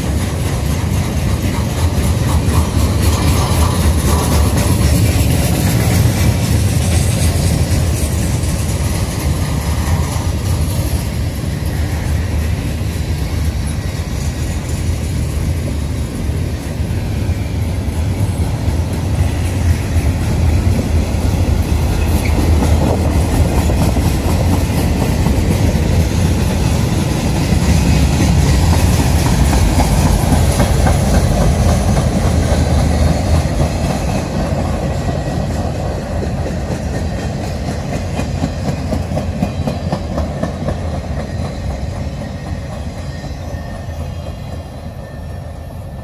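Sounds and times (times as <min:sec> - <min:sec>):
clickety-clack of train cars: 0:00.0 - 0:46.0
train wheels rumbling on rail: 0:00.0 - 0:46.0.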